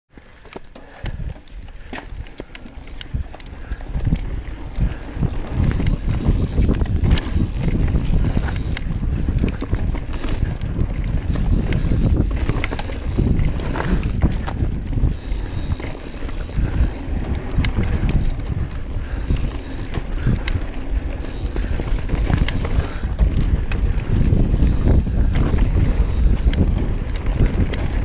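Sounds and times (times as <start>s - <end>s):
bike rattling: 0.1s - 28.0s
tyres clicking over rough ground: 0.1s - 28.0s
wind buffeting microphone: 0.8s - 28.0s.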